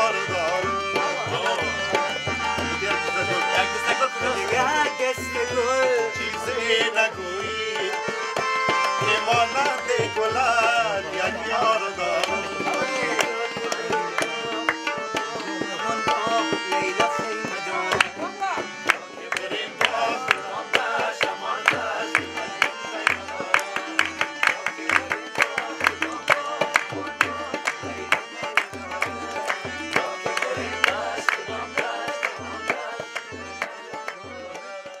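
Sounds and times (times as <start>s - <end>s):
hand drums: 0.0s - 34.6s
harmonium chords and melody: 0.0s - 35.0s.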